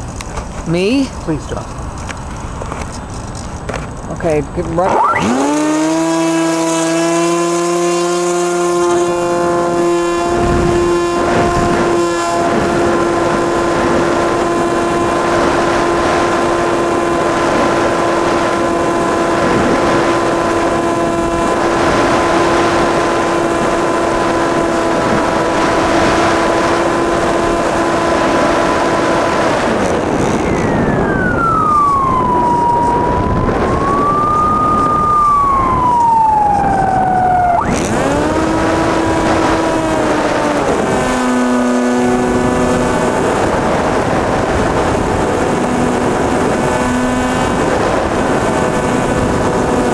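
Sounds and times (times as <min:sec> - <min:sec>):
rushing wind noise: 0:00.0 - 0:49.9
electric motor whining: 0:04.7 - 0:15.6, 0:18.5 - 0:49.9.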